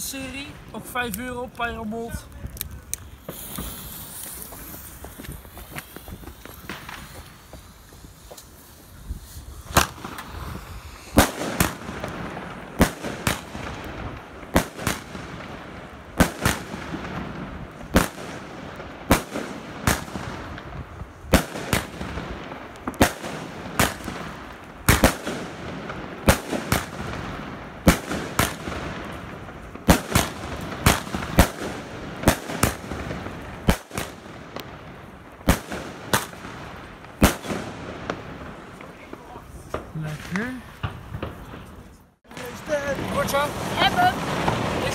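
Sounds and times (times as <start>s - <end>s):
crackling hiss: 0.0s - 44.9s
firework bangs: 1.8s - 44.9s.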